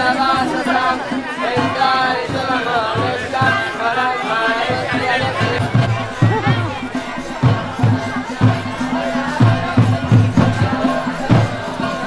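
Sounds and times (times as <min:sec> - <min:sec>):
devotional chant singing: 0:00.0 - 0:12.0
low drum beats: 0:01.6 - 0:12.0.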